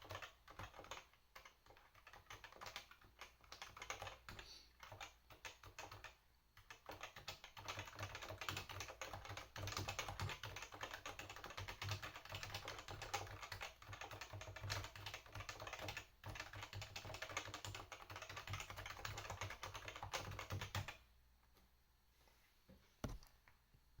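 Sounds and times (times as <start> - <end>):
fast typing on keyboard: 0.0 - 21.0.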